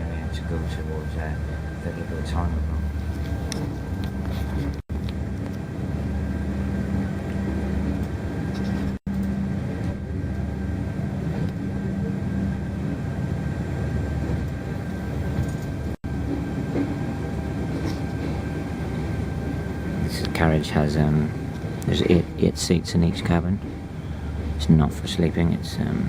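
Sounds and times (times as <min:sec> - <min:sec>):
low hum: 0:00.0 - 0:26.0
train rumble inside carriage: 0:00.0 - 0:26.0.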